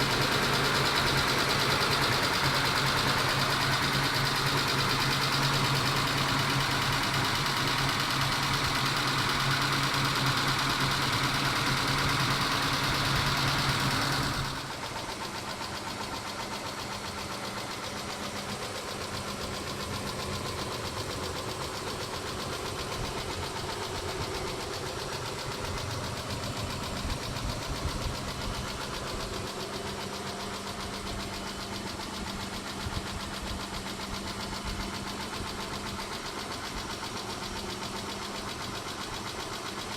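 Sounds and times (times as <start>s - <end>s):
car engine idling: 0.0s - 39.9s
engine tapping: 0.0s - 39.9s.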